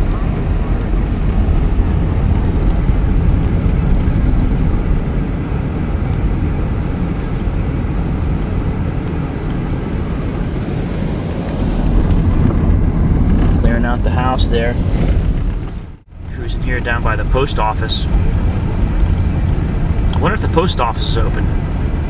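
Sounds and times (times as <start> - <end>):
car road noise: 0.0 - 22.0
engine and tyres rumbling: 0.0 - 22.0.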